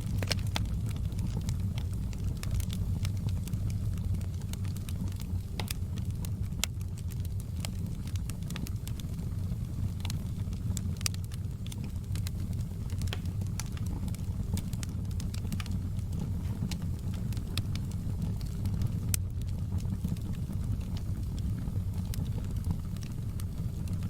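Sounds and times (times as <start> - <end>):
burning logs crackling and popping: 0.0 - 24.0
fire low rumble: 0.0 - 24.0.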